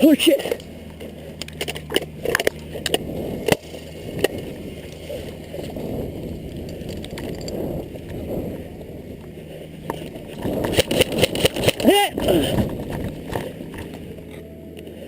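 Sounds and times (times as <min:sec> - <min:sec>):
rough rumble of movement: 0:00.0 - 0:15.0
wind on microphone: 0:02.1 - 0:14.3.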